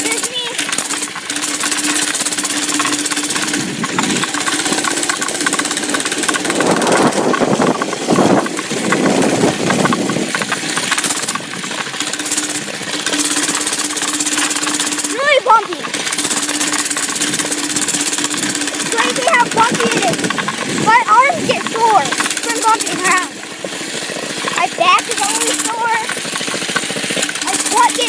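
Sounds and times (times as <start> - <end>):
mini bike engine running: 0.0 - 28.0.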